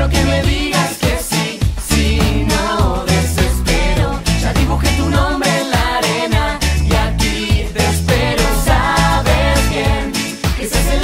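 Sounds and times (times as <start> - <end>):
pop song with singing over a beat: 0.0 - 11.0.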